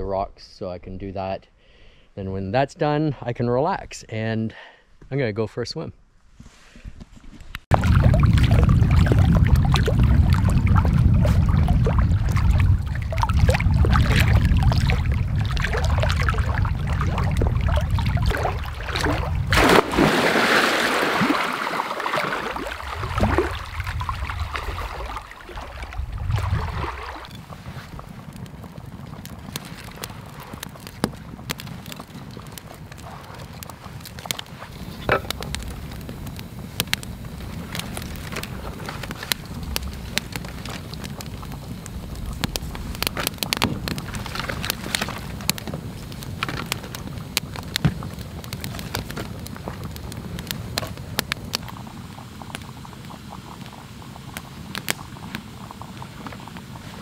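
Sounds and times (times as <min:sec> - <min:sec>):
campfire crackling and popping: 0:07.6 - 0:57.0
low steady rumble: 0:07.7 - 0:57.0.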